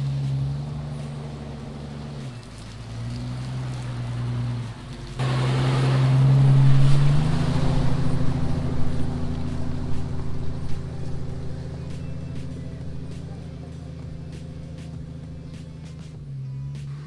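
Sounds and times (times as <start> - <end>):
engine running under load: 0.0 - 17.0.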